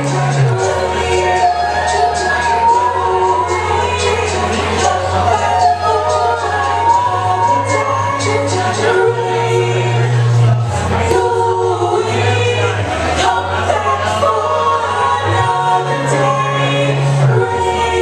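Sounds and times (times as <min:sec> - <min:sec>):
a cappella vocal harmonies: 0:00.0 - 0:18.0.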